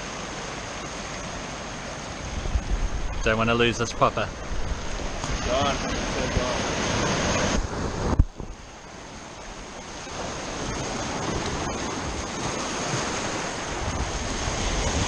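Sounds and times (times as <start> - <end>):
waves breaking over rocks: 0.0 - 15.0
wind buffeting microphone: 2.2 - 15.0.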